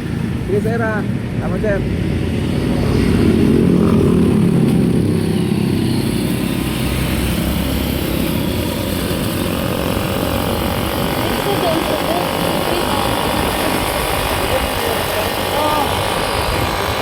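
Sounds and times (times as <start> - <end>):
road and wind noise: 0.0 - 17.0
vehicle engine driving: 0.0 - 17.0.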